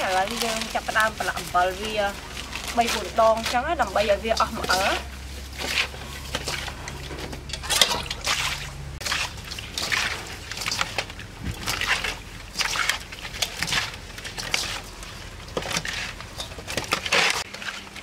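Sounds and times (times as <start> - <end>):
wet squelching and sloshing: 0.0 - 18.0.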